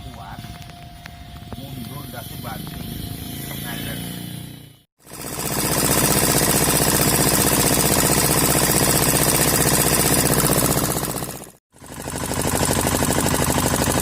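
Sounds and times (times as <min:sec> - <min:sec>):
engine running with rapid knocking: 0:00.0 - 0:14.0.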